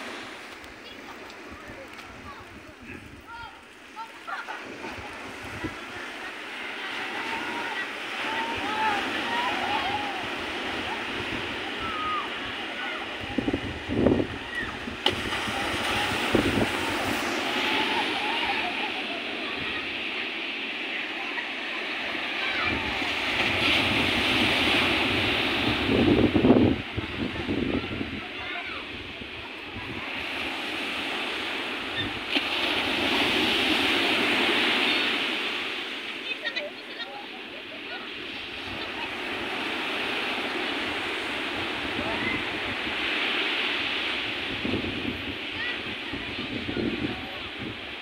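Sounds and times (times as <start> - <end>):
wind buffeting microphone: 0.0 - 3.6, 4.5 - 20.8, 21.9 - 35.5, 38.3 - 48.0
ocean surf breaking on beach: 0.0 - 48.0.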